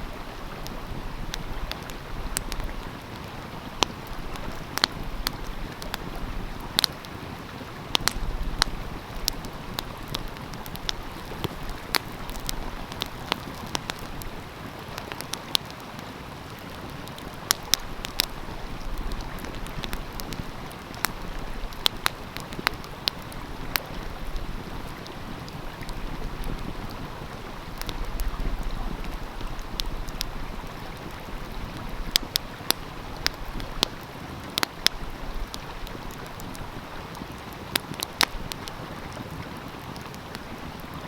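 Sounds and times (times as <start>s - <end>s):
stream flowing: 0.0s - 41.0s
wood fire crackling and popping: 0.0s - 41.0s.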